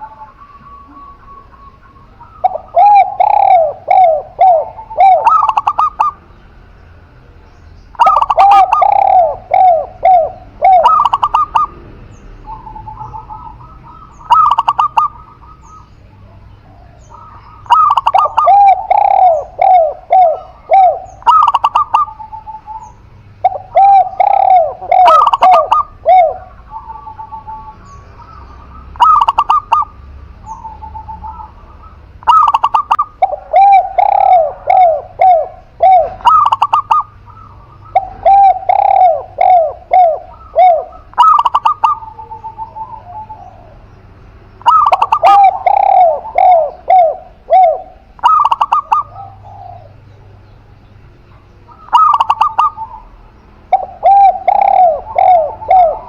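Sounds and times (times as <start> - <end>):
doves cooing: 0.0 - 6.7, 7.9 - 56.0.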